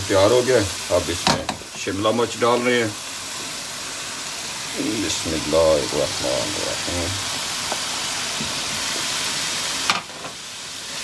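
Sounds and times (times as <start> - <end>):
peppers sizzling in a pan: 0.0 - 11.0.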